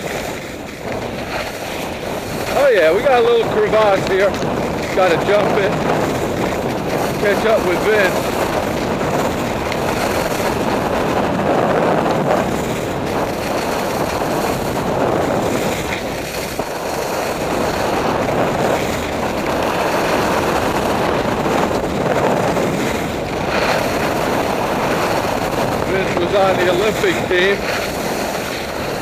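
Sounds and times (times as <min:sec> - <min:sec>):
skis scraping over packed snow: 0:00.0 - 0:29.0
wind rushing over microphone: 0:00.0 - 0:29.0.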